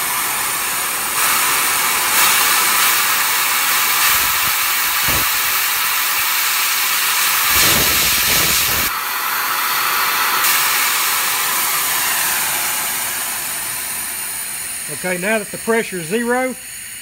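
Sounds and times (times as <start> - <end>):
air hissing from valve: 0.0 - 17.0.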